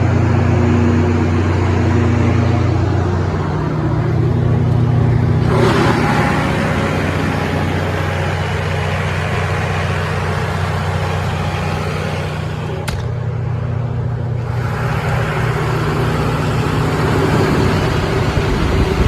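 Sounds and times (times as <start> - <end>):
diesel generator humming: 0.0 - 19.0.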